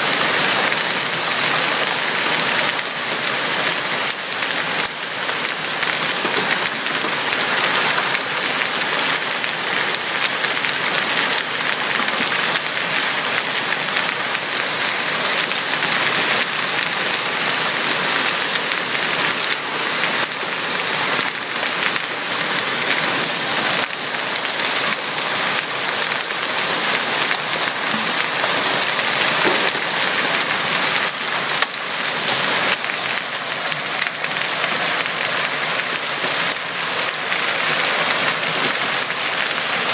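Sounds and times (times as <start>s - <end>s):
rain: 0.0s - 39.9s
hail clattering: 0.1s - 39.9s.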